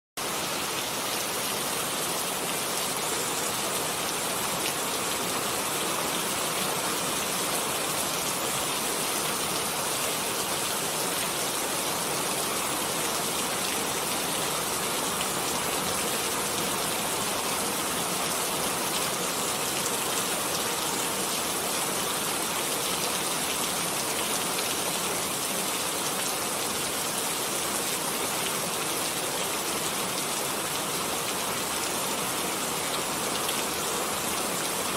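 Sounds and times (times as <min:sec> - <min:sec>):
rain hissing on a surface: 0:00.2 - 0:34.9.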